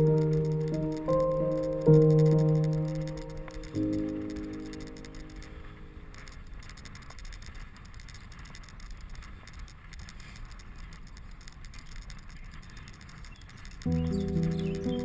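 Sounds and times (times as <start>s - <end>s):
bicycle tyre road rumble: 0.0s - 15.0s
wind noise on microphone: 0.0s - 15.0s.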